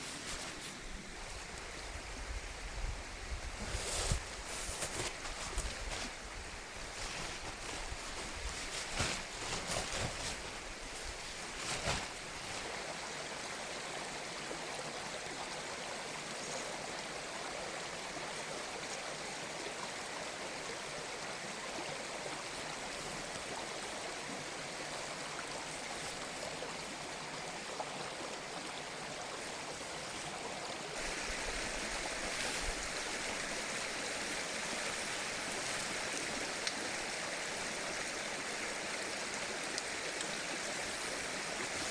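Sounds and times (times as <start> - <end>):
mountain stream flowing: 0.0 - 41.9.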